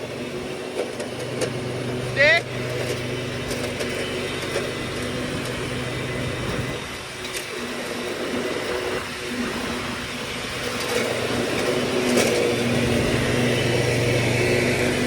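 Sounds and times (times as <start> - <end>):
riding lawn mower engine: 0.0 - 15.0.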